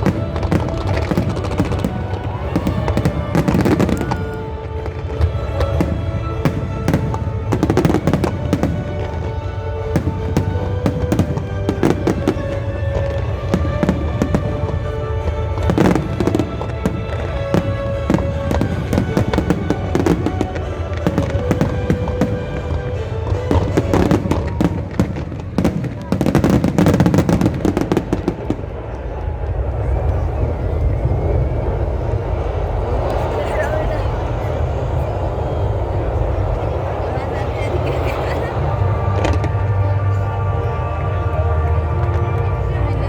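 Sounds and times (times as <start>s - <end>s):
fireworks bangs and crackles: 0.0s - 37.2s, 37.8s - 43.0s
crowd voices: 0.0s - 43.0s
music: 0.0s - 43.0s.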